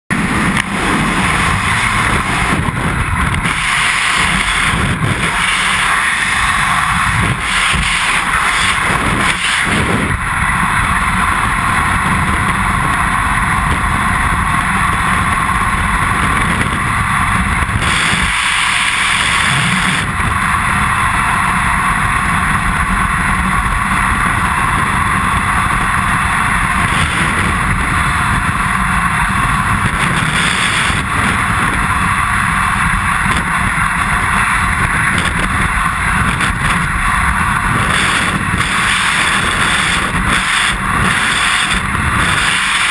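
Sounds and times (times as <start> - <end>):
freefall wind buffeting microphone: 0.1 - 42.9.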